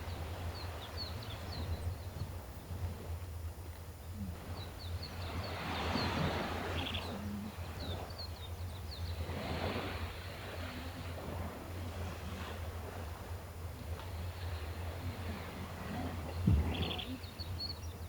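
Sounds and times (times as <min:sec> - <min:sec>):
sea waves washing ashore: 0:00.0 - 0:17.6
steady low hum: 0:00.0 - 0:18.0.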